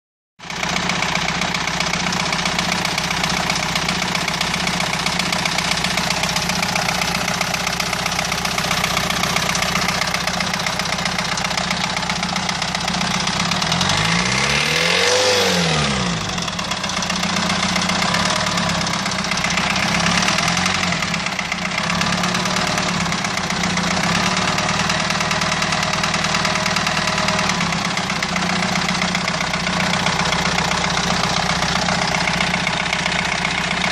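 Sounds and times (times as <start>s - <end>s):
diesel engine idling and revving: 0.4s - 33.9s.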